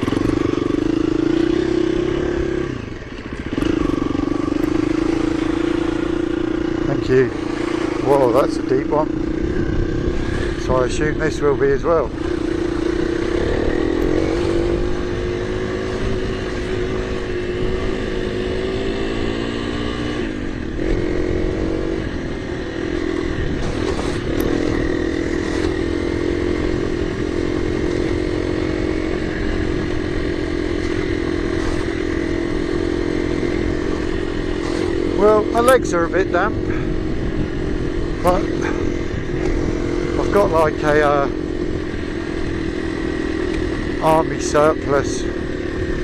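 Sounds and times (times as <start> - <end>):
dirt bike engine running: 0.0 - 46.0.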